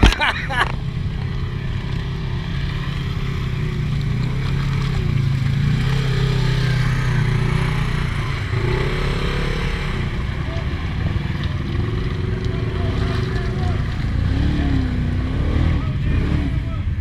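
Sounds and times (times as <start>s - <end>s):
vehicle engine churning through mud: 0.0s - 17.0s.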